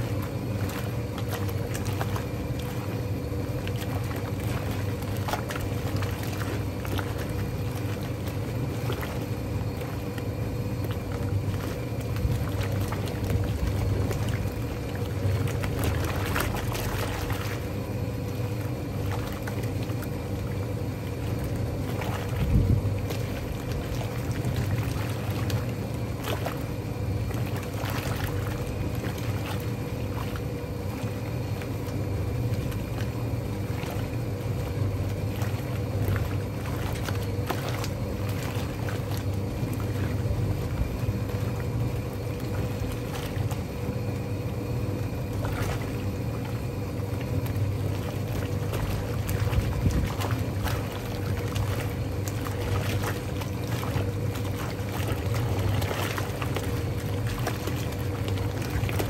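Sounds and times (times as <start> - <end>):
washing machine motor humming: 0.0 - 59.0
water and clothes sloshing: 0.0 - 59.0.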